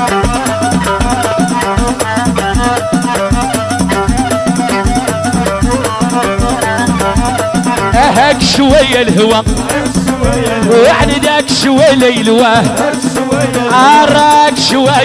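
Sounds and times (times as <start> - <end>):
fast percussion beat: 0.0 - 15.0
ornamented melody line: 0.0 - 15.0.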